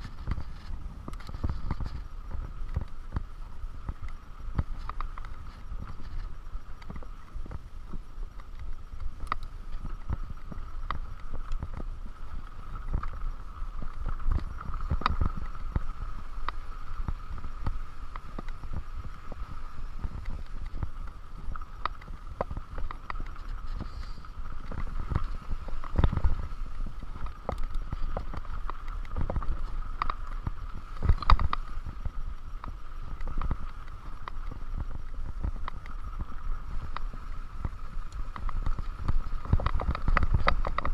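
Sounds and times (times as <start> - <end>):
bike rattling over bumps: 0.0 - 40.9
bike tyres rolling on dirt: 0.0 - 40.9.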